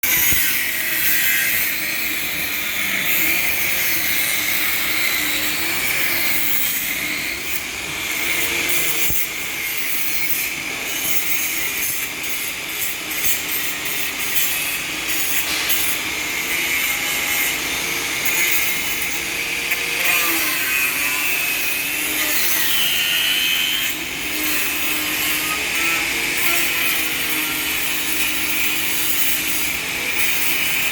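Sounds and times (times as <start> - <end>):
angle grinder grinding: 0.0 - 30.9.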